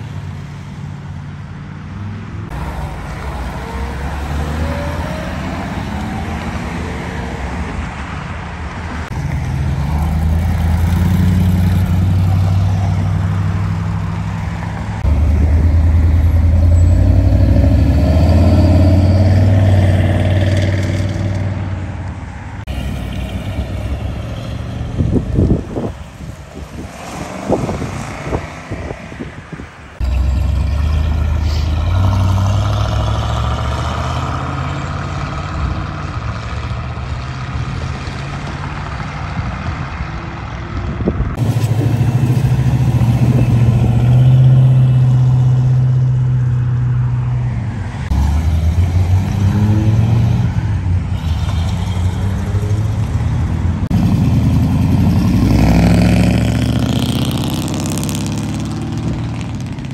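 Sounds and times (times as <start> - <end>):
car engines rumbling past: 0.0 - 59.9.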